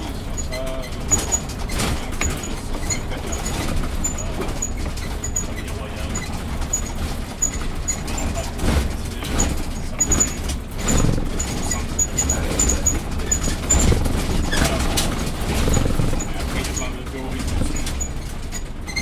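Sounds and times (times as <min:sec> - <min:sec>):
bus engine and road rumble: 0:00.0 - 0:19.0
knocks from bumps: 0:00.0 - 0:19.0.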